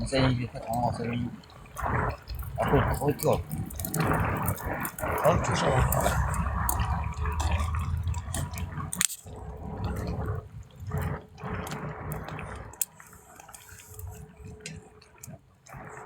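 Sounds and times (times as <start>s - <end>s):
rain dripping and pattering: 0.0s - 16.0s.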